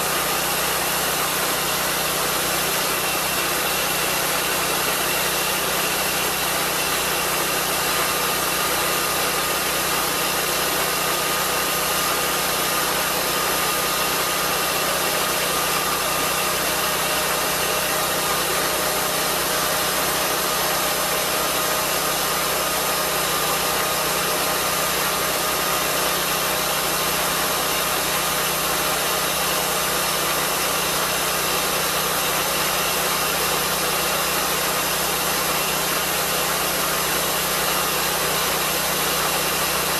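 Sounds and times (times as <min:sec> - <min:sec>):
sawmill petrol engine droning: 0:00.0 - 0:39.9.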